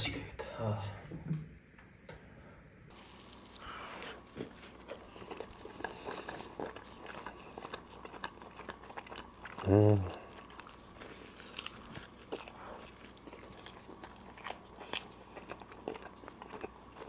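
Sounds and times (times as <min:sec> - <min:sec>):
man chewing crunchy pizza: 0:02.9 - 0:17.0.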